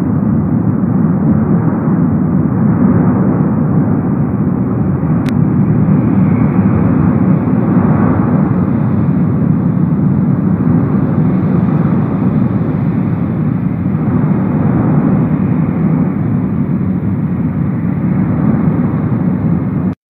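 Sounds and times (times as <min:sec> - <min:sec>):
lava fountain deep rushing: 0:00.1 - 0:20.0.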